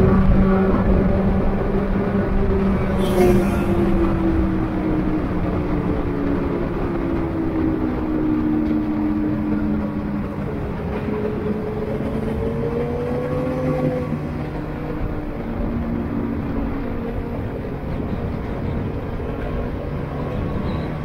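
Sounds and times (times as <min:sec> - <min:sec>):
race car engines: 0:00.0 - 0:21.0
road and wind noise: 0:00.0 - 0:21.0.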